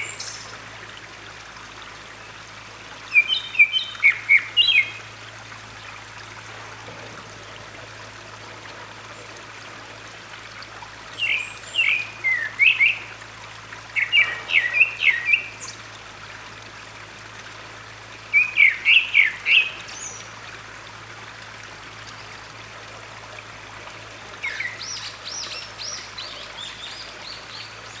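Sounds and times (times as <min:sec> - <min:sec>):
running stream water: 0:00.0 - 0:28.0.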